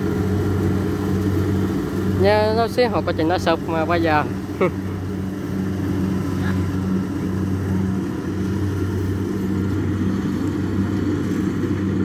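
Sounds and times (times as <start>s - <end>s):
combine harvester diesel engine droning: 0.0s - 12.0s.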